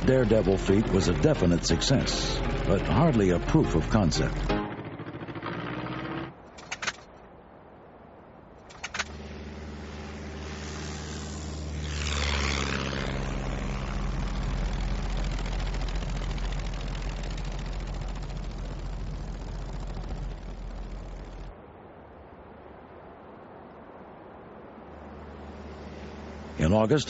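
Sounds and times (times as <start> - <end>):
propeller aircraft engine droning: 0.0 - 22.1, 23.1 - 27.0.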